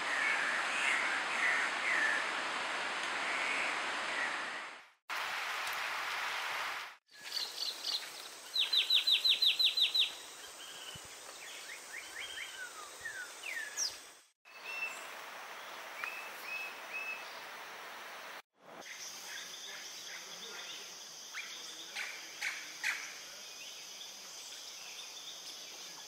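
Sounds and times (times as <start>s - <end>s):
forest background hiss: 0.0s - 26.0s.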